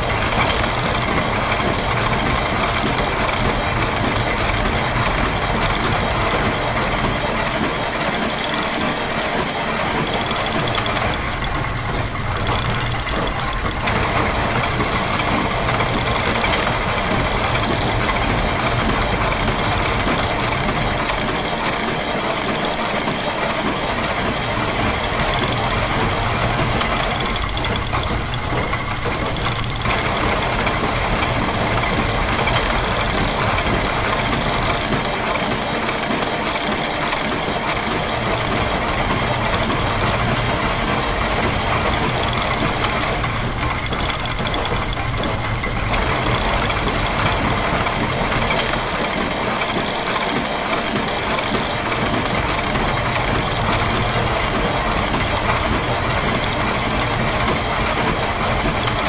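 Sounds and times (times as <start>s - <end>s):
gears clicking and rattling: 0.0s - 59.0s
mechanical drone: 0.0s - 59.0s.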